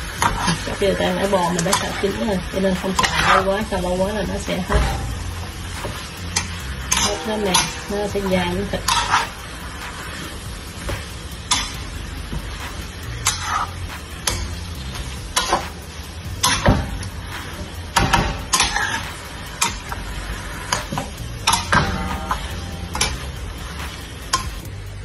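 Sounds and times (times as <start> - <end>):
spatula scraping and tossing food: 0.0 - 24.8
stir-fry sizzling in a wok: 0.0 - 25.0.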